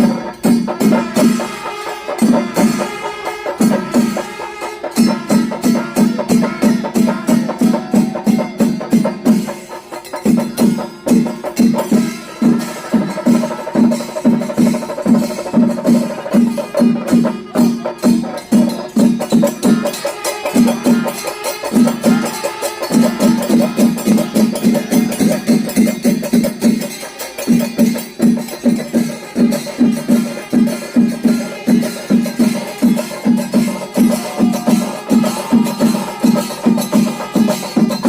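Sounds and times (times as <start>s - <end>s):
fast drumming: 0.0s - 38.0s
hand cymbals: 0.0s - 38.0s
steady low drum beat: 0.0s - 38.0s.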